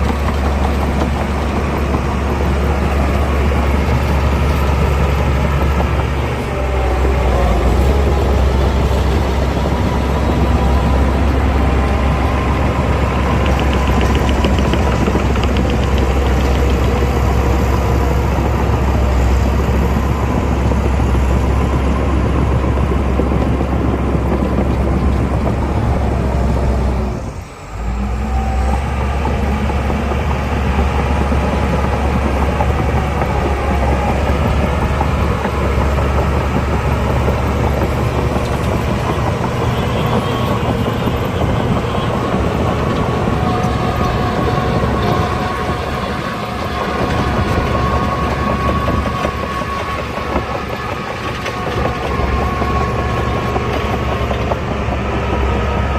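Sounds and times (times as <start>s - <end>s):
diesel machinery engine rumble: 0.0s - 55.9s.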